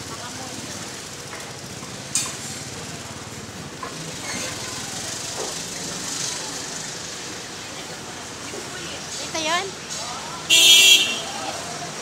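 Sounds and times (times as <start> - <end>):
distant voices: 0.0 - 12.0.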